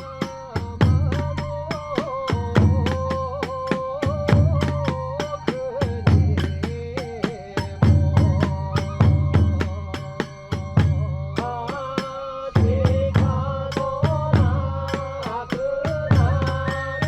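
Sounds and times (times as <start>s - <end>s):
bamboo flute melody: 0.0s - 13.6s, 15.2s - 17.0s.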